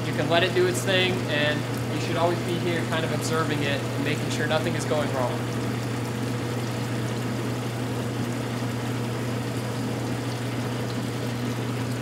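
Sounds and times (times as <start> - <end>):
bandsaw motor hum: 0.0 - 12.0.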